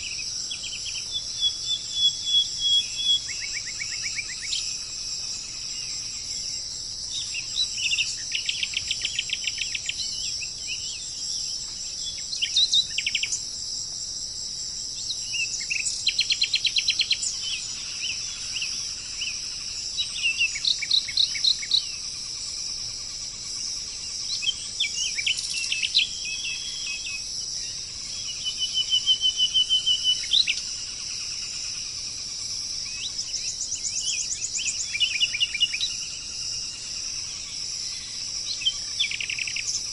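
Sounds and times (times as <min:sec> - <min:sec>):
birds trilling and chirping: 0:00.0 - 0:13.6, 0:14.8 - 0:39.9
crickets droning: 0:00.0 - 0:39.9.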